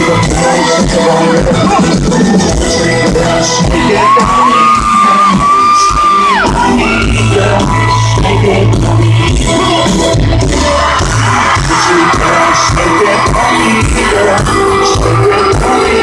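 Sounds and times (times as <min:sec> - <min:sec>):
crowd yelling and whooping: 0:00.0 - 0:16.0
live country-rock band: 0:00.0 - 0:16.0.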